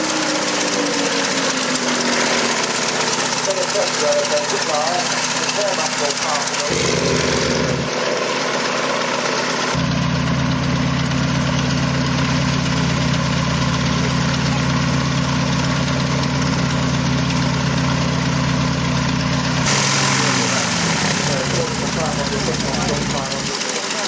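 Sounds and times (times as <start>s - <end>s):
piston aircraft engine running: 0.0s - 24.0s.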